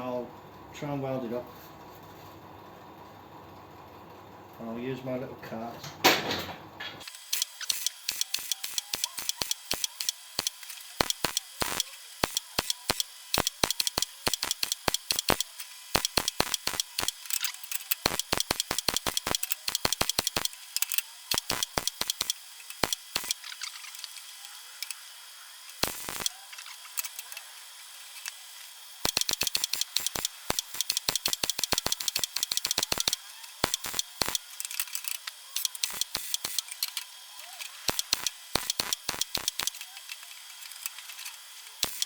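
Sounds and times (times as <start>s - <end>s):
arc welding crackling: 7.0s - 42.0s.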